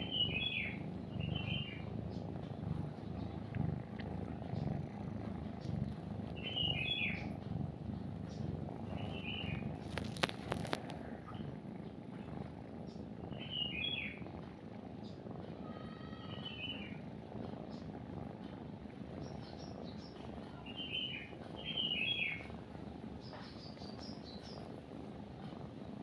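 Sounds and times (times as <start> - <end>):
birds chirping: 0.0 - 17.9, 19.0 - 24.7
kitten purring: 0.0 - 26.0.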